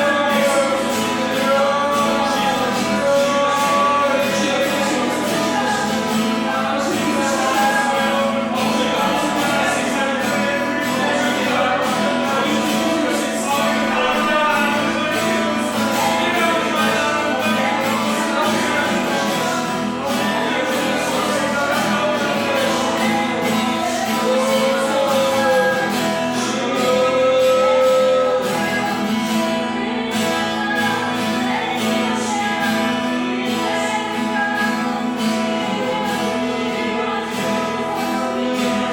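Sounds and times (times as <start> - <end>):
guitar accompaniment: 0.0 - 38.9
person singing: 0.0 - 38.9.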